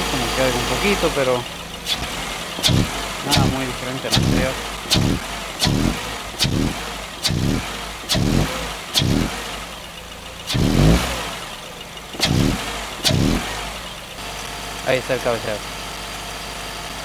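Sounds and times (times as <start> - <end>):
engine knock rattling click: 0.0 - 14.6
car engine revving in blips: 0.0 - 17.0.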